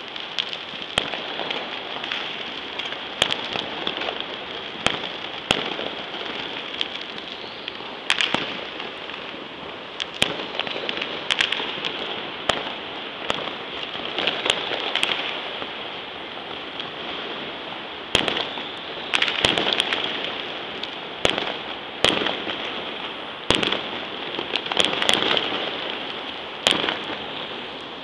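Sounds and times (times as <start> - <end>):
firecrackers crackling: 0.0 - 28.0
fireworks bangs: 0.0 - 28.0.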